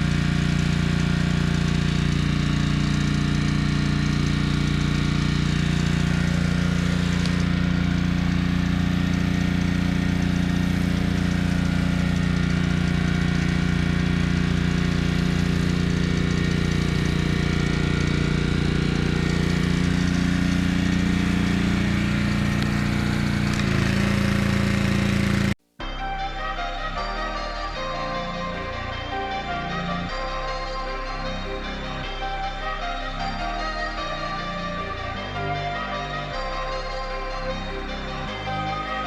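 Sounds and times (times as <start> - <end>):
pressure washer engine running: 0.0 - 39.0.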